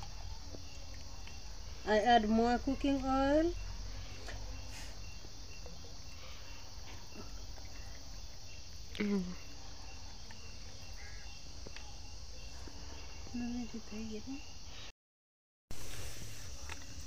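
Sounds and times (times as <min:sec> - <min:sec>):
crickets chirping: 0:00.0 - 0:14.9, 0:15.7 - 0:17.0
insect hiss: 0:00.0 - 0:14.9, 0:15.7 - 0:17.0.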